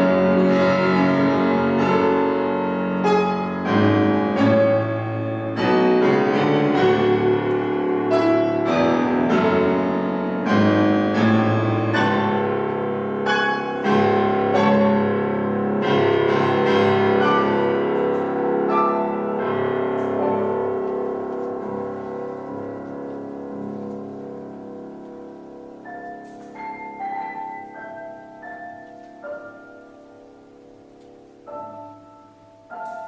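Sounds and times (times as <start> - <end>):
orchestral music led by piano: 0.0 - 33.0.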